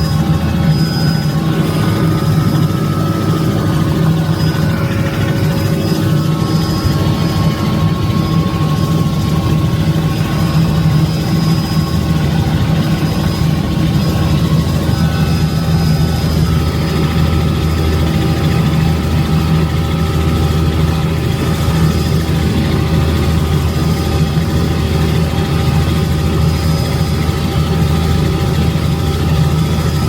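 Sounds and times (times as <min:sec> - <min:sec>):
helicopter engine and rotor drone: 0:00.0 - 0:30.0.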